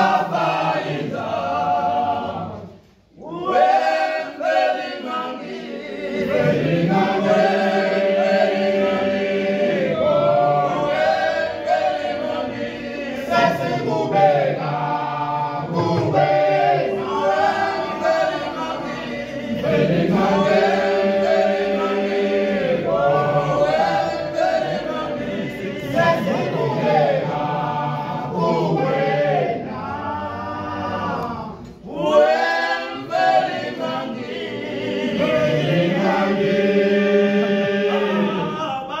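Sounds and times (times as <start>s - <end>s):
male a cappella choir singing: 0.0s - 39.0s.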